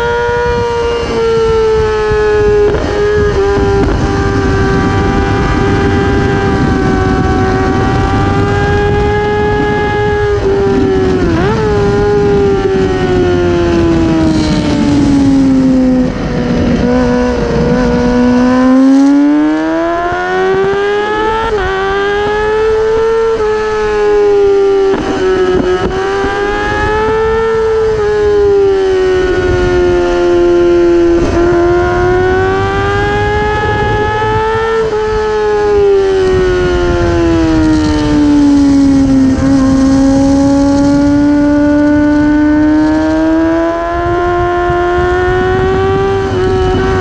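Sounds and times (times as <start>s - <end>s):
motorcycle engine at high revs: 0.0s - 47.0s
wind rush: 0.0s - 47.0s.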